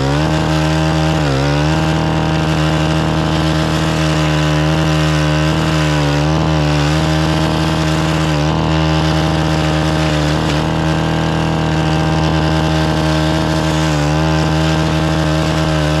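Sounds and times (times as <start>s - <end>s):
blade cutting into soil: 0.0s - 16.0s
edger engine at high throttle: 0.0s - 16.0s.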